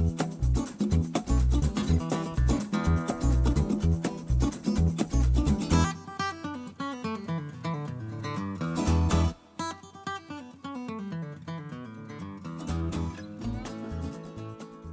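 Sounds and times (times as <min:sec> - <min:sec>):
acoustic guitar picking and strumming: 0:00.0 - 0:14.9.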